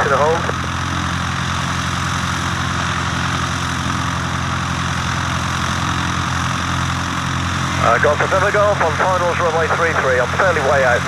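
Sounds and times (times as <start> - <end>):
small aircraft engine and propeller: 0.0 - 11.0.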